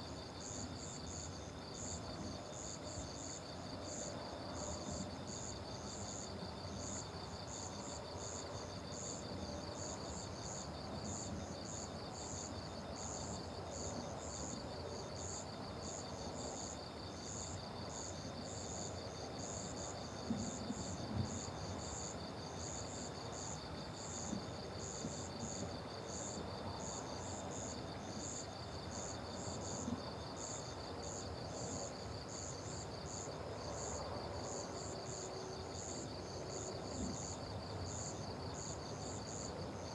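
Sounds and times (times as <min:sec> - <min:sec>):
higher cricket chirp: 0:00.0 - 0:39.9
low background hiss: 0:00.0 - 0:39.9.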